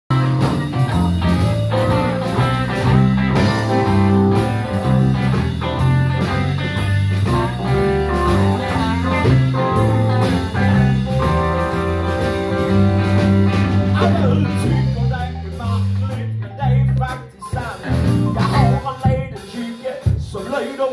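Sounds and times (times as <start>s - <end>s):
electric guitars: 0.1s - 19.1s
electric bass: 0.1s - 19.3s
keyboard: 0.1s - 19.5s
drum kit beat: 0.1s - 20.9s.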